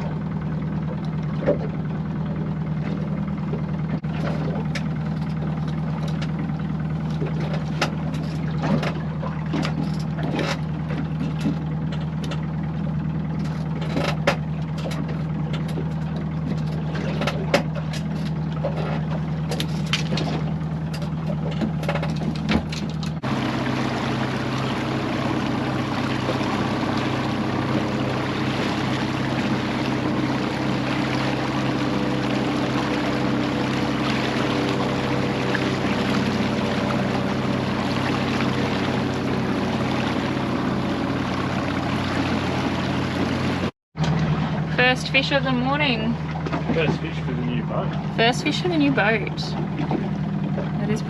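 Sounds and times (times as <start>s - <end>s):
motorboat engine running: 0.0s - 51.0s
water splashing along hull: 0.0s - 51.0s.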